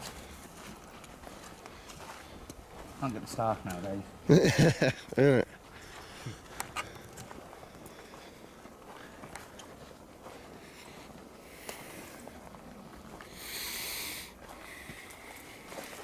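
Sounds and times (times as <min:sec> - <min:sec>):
faint ticks and rustles: 0:00.0 - 0:16.0.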